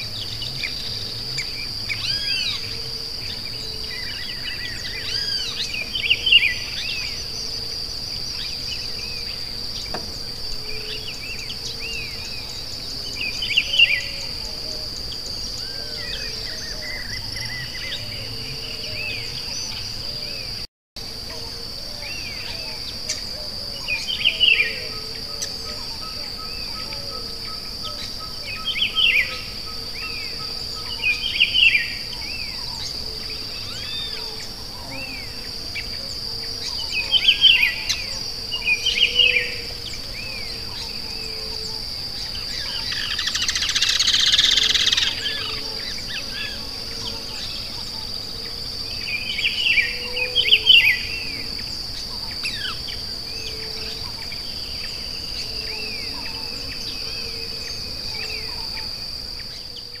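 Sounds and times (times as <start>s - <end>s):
birds singing: 0.0s - 20.6s, 21.2s - 60.0s.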